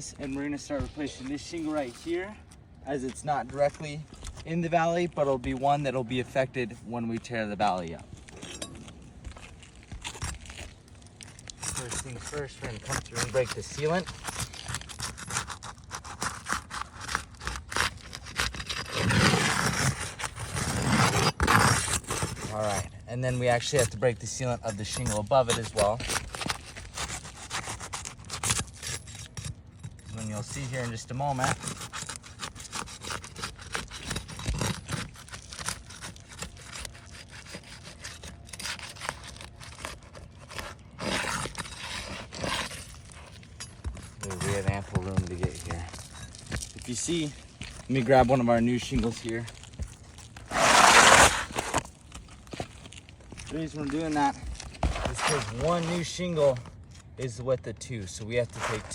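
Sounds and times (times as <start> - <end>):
tool scraping under roof shingle: 0.0 - 58.9.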